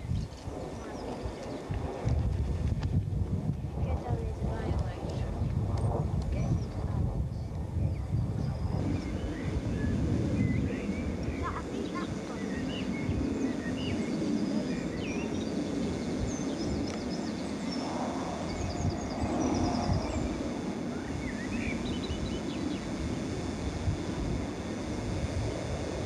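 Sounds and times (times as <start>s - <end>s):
small birds chirping: 0.0s - 1.8s, 6.3s - 26.0s
steady low rumble: 0.0s - 26.0s.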